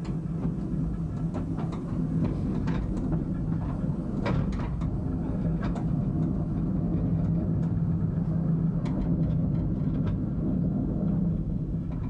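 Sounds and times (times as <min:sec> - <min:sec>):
steam locomotive rumble: 0:00.0 - 0:12.0.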